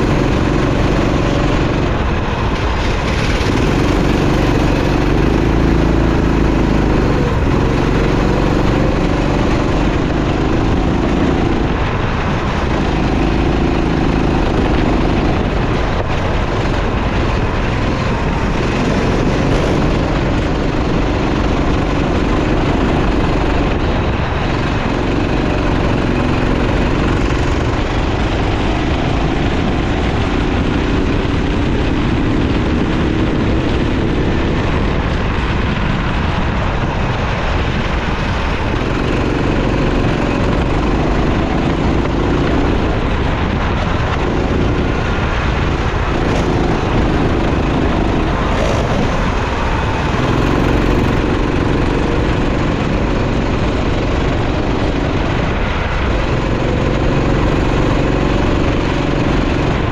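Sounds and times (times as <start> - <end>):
racing kart engine: 0.0 - 59.9
steady rushing noise: 0.0 - 59.9.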